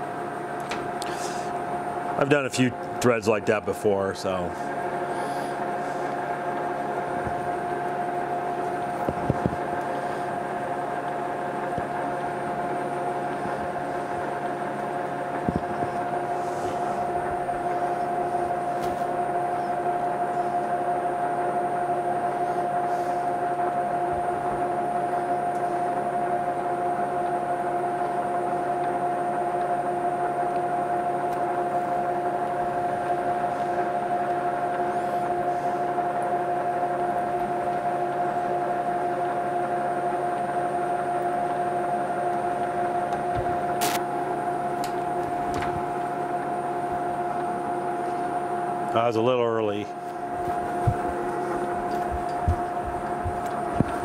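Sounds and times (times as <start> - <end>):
metal lathe gear whine: 0.0 - 54.0.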